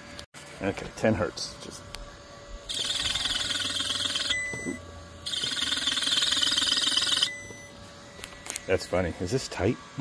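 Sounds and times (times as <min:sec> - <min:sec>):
electric motor buzzing: 0:01.5 - 0:10.0.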